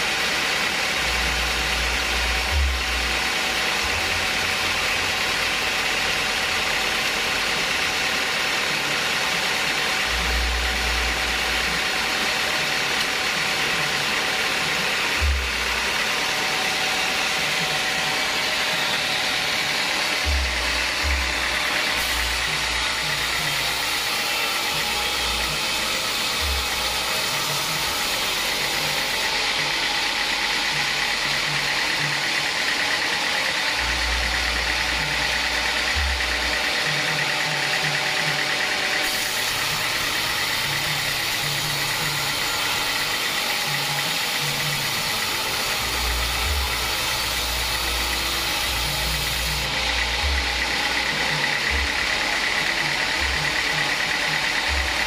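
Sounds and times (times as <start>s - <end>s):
band saw sawing log: 0.0s - 55.0s.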